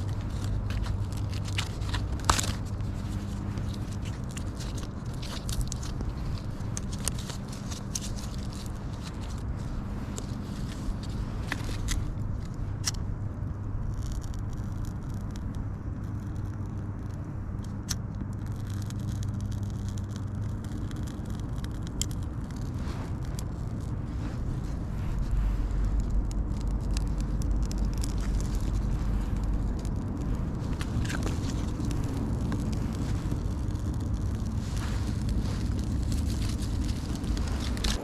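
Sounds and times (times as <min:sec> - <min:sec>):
strong wind rumbling on microphone: 0:00.0 - 0:38.0.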